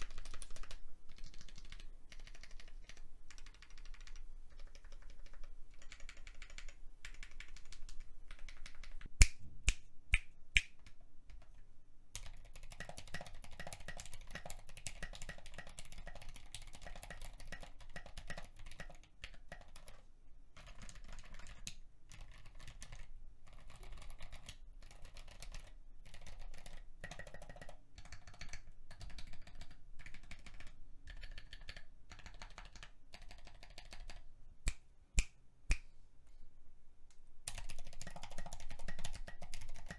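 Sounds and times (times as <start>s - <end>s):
mechanical keyboard typing: 0.0s - 9.1s, 12.2s - 20.0s, 20.6s - 34.2s, 37.5s - 39.9s.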